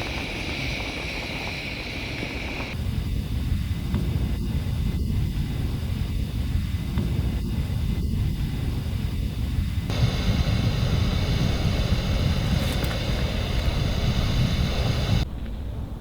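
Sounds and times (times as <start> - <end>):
bright hiss: 0.0 - 15.2
wind buffeting microphone: 0.0 - 16.0.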